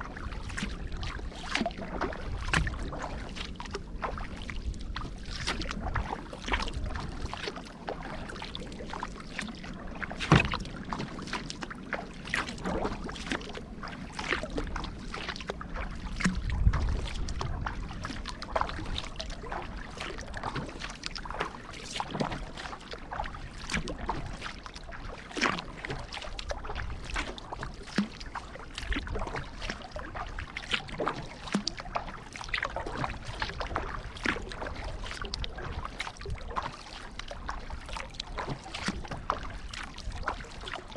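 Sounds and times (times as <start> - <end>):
kayak paddle strokes in water: 0.0 - 40.9
water dripping off paddle: 0.2 - 11.6, 12.2 - 40.8.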